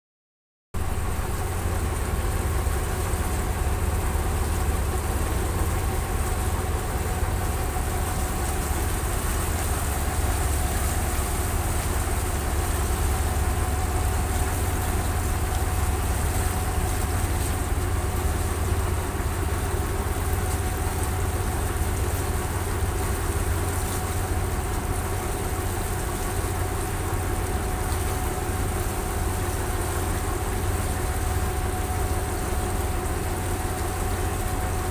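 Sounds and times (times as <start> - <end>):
boat engine droning: 0.8 - 34.9.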